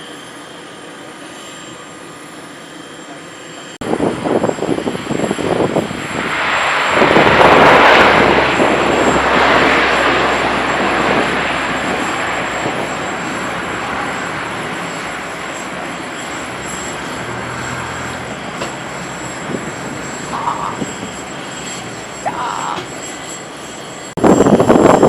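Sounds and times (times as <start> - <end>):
turboprop aircraft passing overhead: 0.0 - 25.0.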